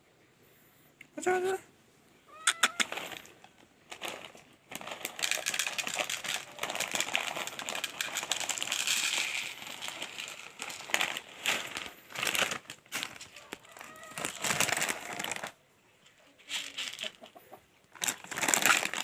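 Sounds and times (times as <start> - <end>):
dense crinkling and crackling: 2.8 - 19.0.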